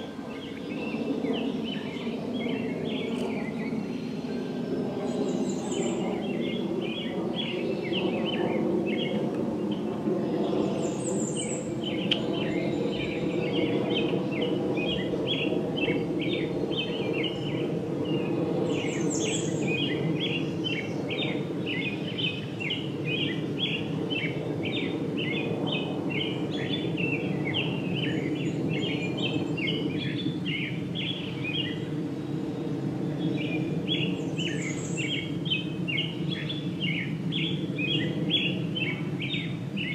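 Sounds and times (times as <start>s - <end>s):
songbirds chirping: 0.0s - 39.9s
steady low hum: 0.0s - 39.9s.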